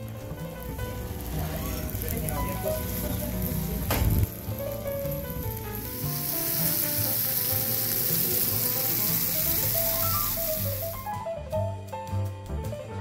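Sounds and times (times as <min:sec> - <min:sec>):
steak sizzling on hot stone: 0:00.0 - 0:11.1
music playing: 0:00.0 - 0:13.0.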